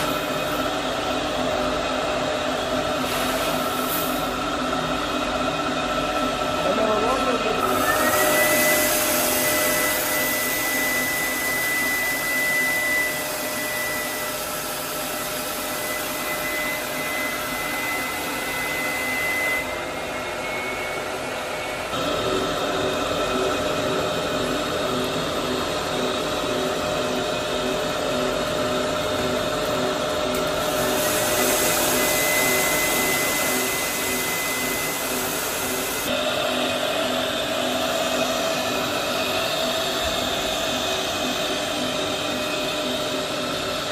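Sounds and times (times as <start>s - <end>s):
factory machinery whirring and whining: 0.0s - 43.9s.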